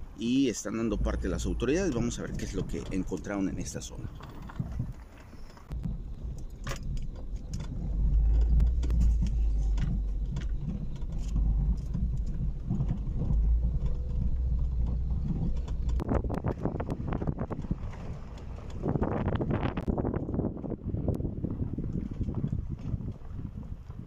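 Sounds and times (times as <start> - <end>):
engine and tyres rumbling: 0.0 - 24.0.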